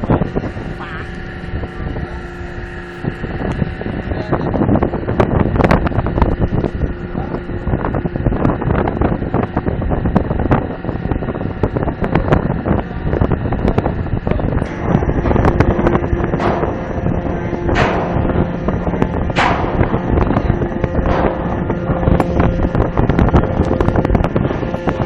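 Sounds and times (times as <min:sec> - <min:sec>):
machinery hum: 0:00.0 - 0:25.0
wind buffeting microphone: 0:00.0 - 0:25.0.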